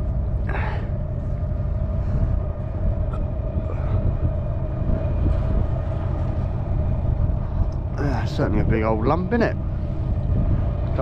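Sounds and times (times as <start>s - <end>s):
ship engines rumbling: 0.0s - 11.0s.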